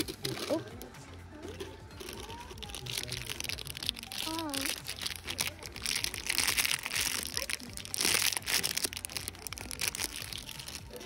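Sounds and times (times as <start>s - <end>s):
crinkling and rustling handling: 0.0s - 11.0s
faint background music: 0.0s - 11.0s.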